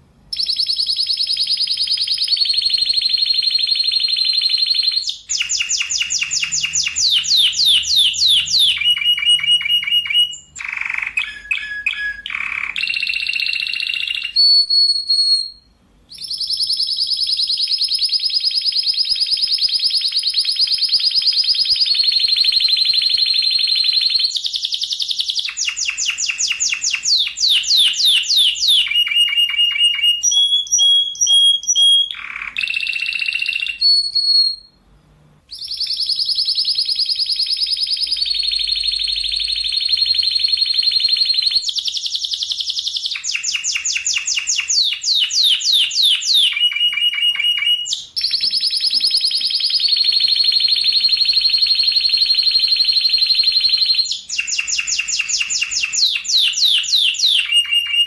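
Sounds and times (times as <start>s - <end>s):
canary singing trills: 0.3s - 34.8s, 35.5s - 58.0s.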